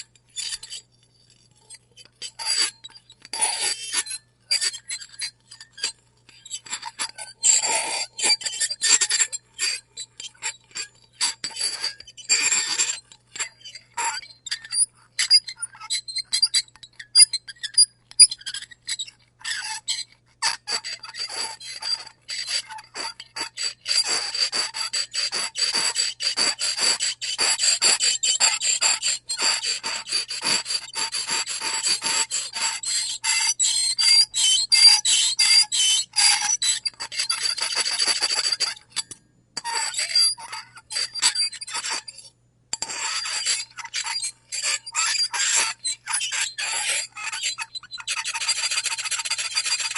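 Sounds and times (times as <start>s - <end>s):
fork scraping a plate: 0.2s - 49.9s.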